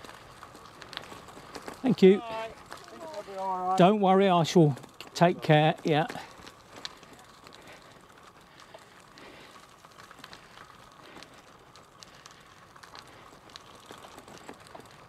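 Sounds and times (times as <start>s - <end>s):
bicycle tyres rolling over gravel: 0.0s - 15.0s.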